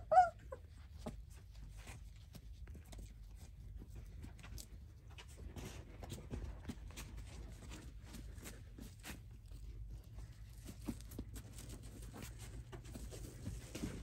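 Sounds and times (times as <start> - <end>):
puppy paws scratching on pads: 0.0 - 14.0.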